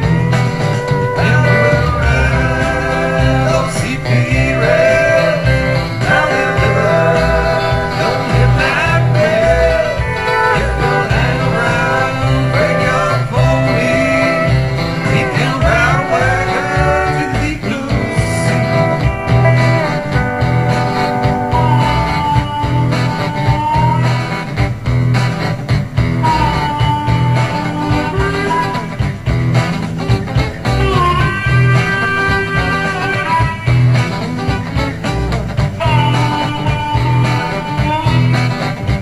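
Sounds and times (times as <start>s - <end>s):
country song with singing and guitar: 0.0s - 39.0s.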